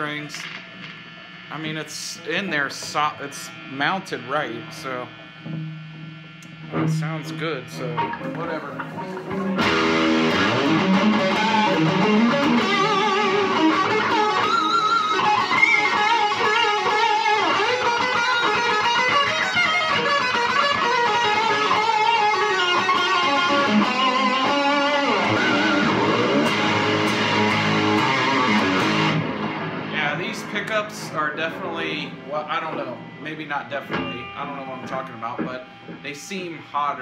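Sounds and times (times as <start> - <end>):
distorted electric guitar lead: 0.0 - 37.0.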